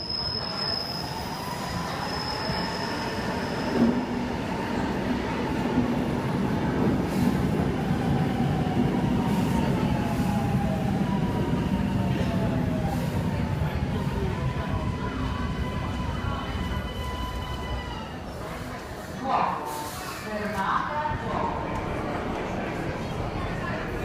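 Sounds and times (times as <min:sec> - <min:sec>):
metro train rumble: 0:00.0 - 0:24.0.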